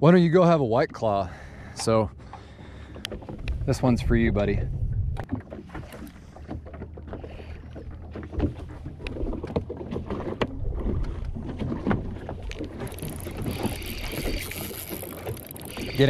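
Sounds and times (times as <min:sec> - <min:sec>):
water slapping against hull: 0:00.0 - 0:16.0.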